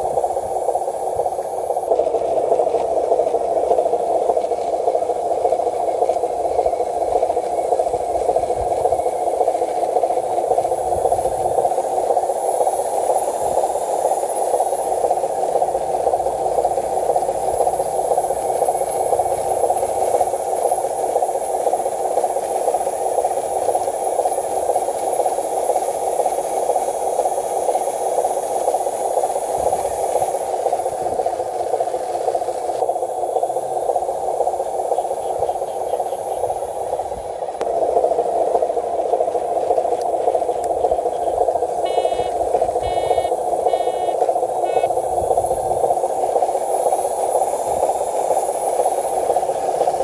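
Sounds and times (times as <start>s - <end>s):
small motor running: 0.0s - 50.0s.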